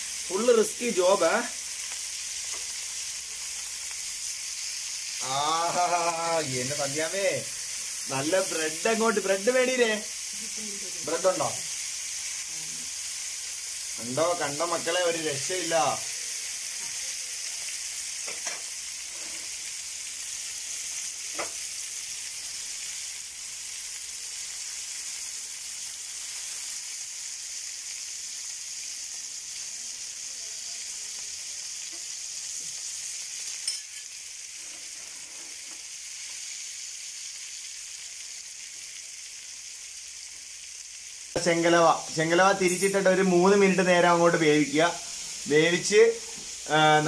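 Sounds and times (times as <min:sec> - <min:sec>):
fish sizzling in hot oil: 0:00.0 - 0:47.0.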